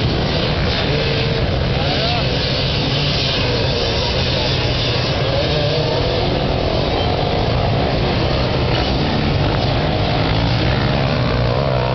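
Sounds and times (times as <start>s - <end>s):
motorcycle engines revving: 0.0s - 11.9s.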